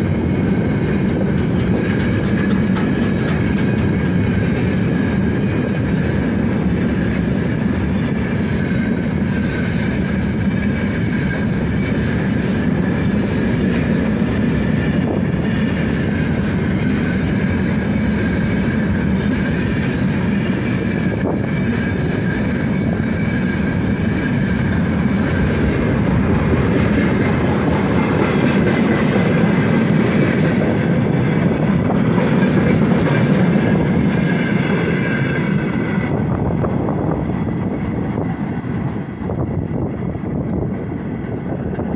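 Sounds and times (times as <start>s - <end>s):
wheels rumbling on rails: 0.0s - 41.9s.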